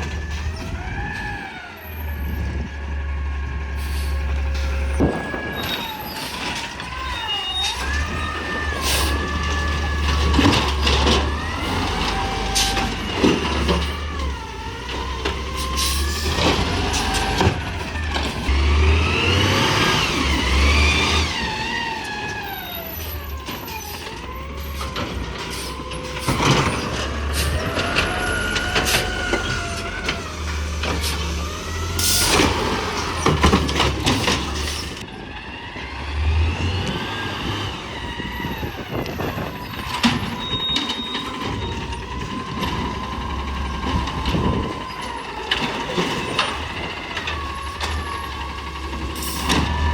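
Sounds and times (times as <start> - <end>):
garbage truck engine revving: 0.0 - 49.9.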